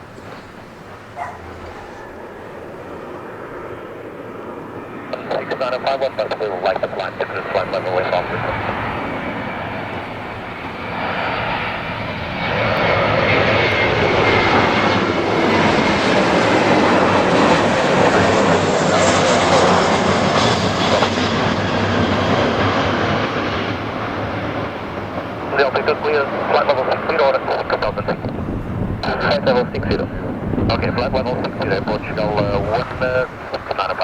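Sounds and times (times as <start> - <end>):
jet airliner engines roaring: 0.0 - 34.0.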